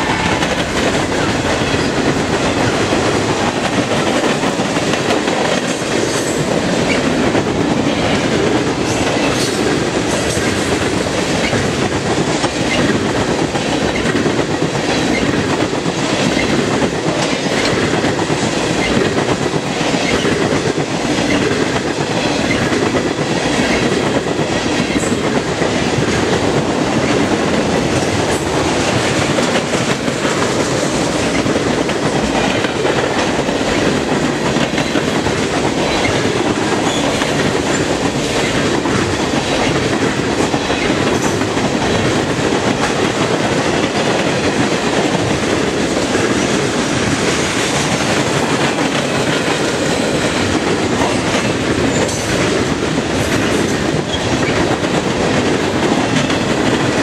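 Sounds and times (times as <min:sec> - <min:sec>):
steel wheels rushing on rail: 0:00.0 - 0:57.0
wheels clicking over rail joints: 0:00.0 - 0:57.0.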